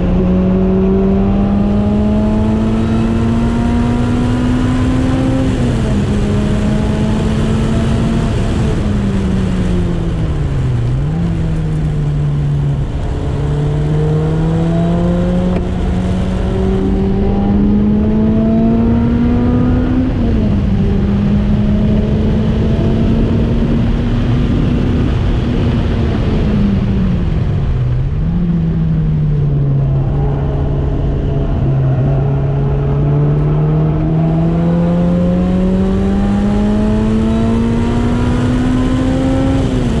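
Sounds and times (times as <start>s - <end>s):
car engine revving: 0.0s - 40.0s
wind noise: 0.0s - 40.0s.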